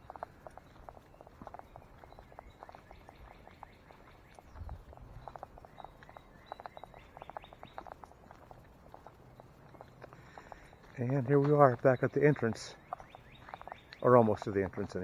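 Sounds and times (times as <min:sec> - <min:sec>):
faint bird chirps: 0:00.0 - 0:15.0
footsteps on walking trail: 0:00.0 - 0:15.0.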